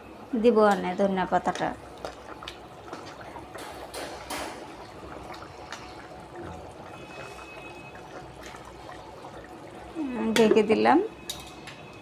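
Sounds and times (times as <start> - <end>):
curry sloshing in a pot: 1.1 - 12.0.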